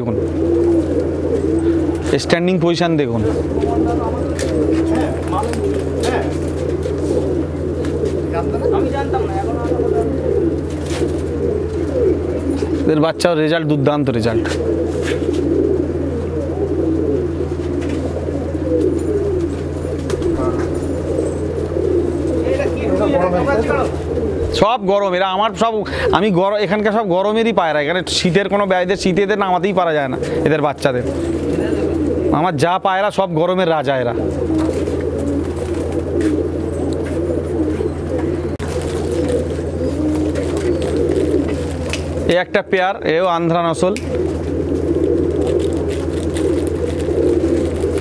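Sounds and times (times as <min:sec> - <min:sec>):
pigeons cooing: 0:00.0 - 0:48.0
steady low hum: 0:00.0 - 0:48.0.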